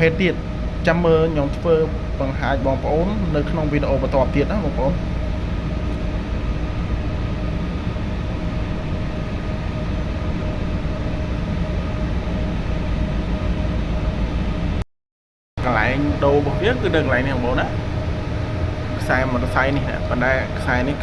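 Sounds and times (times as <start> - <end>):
air conditioner humming: 0.0 - 14.8, 15.6 - 21.0.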